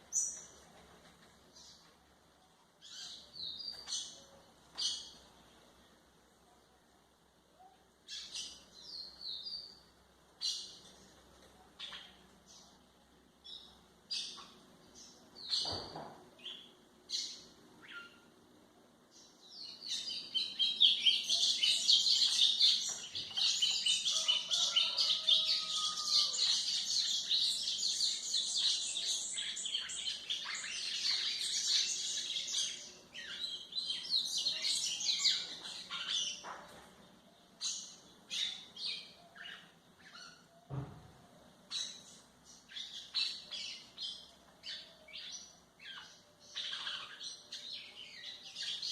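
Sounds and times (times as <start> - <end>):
bird chirping and twittering: 0.1 - 0.6, 2.8 - 5.3, 8.0 - 11.1, 11.8 - 12.8, 13.4 - 18.3, 19.1 - 40.7, 41.6 - 48.9.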